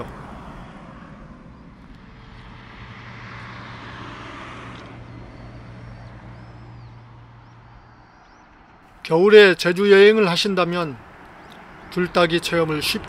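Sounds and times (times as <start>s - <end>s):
vehicle passing: 0.0s - 13.0s.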